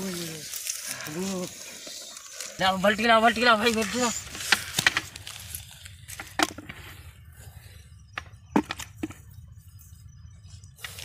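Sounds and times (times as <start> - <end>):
grass leaves and netting crackling: 0.0 - 7.7, 9.8 - 11.0.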